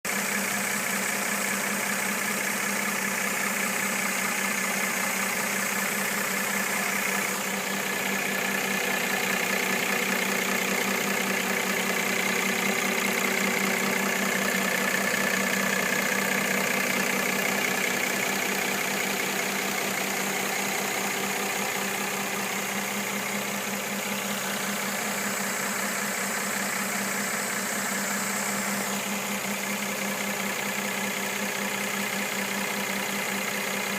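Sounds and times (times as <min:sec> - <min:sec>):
car engine idling with knocking: 0:00.0 - 0:33.9.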